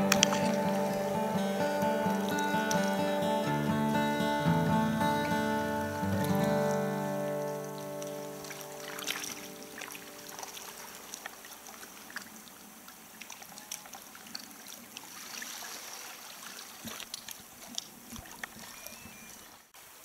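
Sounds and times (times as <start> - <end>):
water lapping against kayak hull: 0.0 - 4.1, 5.1 - 19.7.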